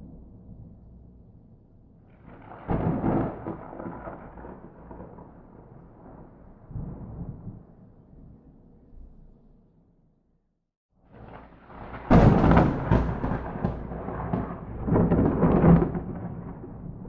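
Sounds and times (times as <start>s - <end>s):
thunder crack and rumble: 0.0s - 9.2s, 11.1s - 17.0s.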